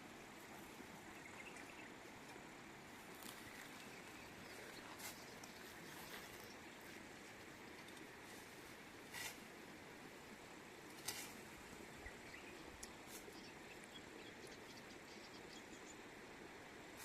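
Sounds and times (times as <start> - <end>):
faint outdoor background hiss: 0.0 - 17.0.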